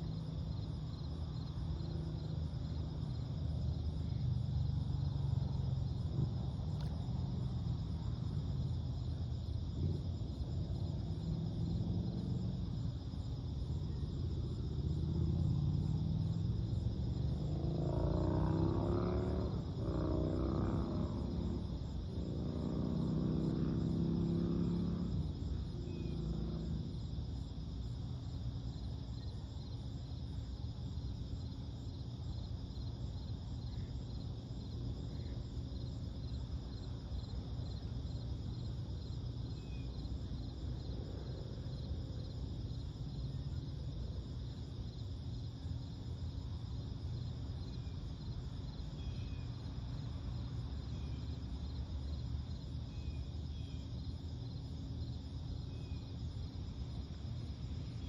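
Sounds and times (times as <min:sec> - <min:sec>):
low engine hum: 0:00.0 - 0:58.0
low steady rumble: 0:00.0 - 0:58.0
night insects chirping: 0:00.0 - 0:58.0.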